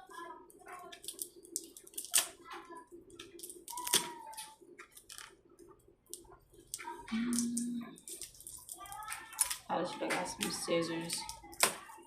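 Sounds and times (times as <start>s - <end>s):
plastic packaging crinkling: 0.6s - 5.4s, 6.1s - 12.0s.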